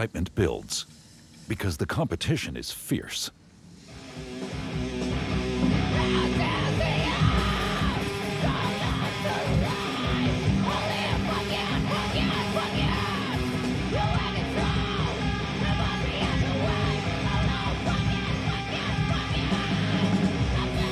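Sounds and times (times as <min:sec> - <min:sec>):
heavy metal music: 0:03.9 - 0:20.9.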